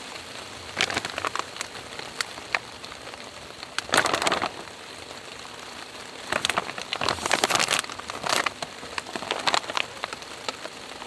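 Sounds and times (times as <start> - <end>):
steady rain: 0.0 - 11.0
plastic packaging crinkling: 0.4 - 11.0.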